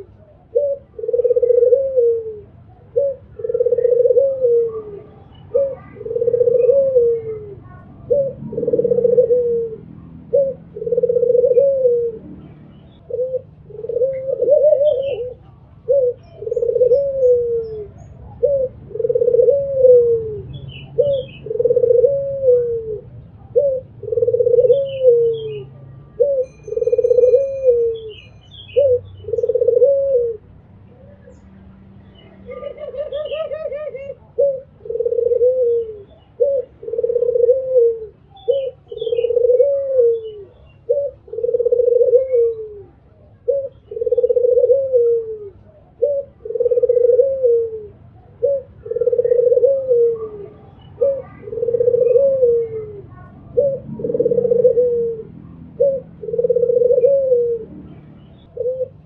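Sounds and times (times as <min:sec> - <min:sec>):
dove cooing: 0:00.0 - 0:31.4, 0:32.2 - 0:59.0.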